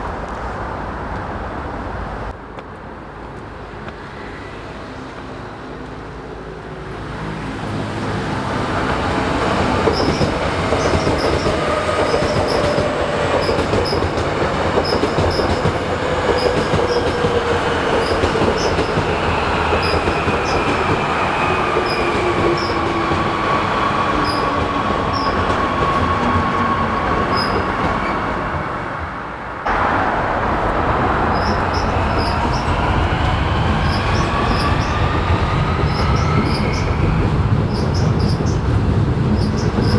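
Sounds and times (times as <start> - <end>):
electric train wheel and rail noise: 0.0 - 39.9.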